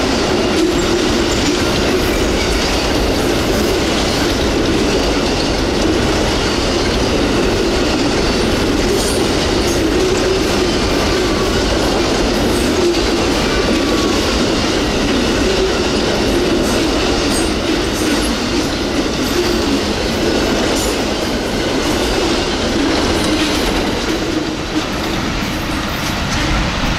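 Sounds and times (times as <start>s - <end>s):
steel wheels rumbling on rails: 0.0s - 26.9s
wheels clacking over rail joints: 0.0s - 26.9s.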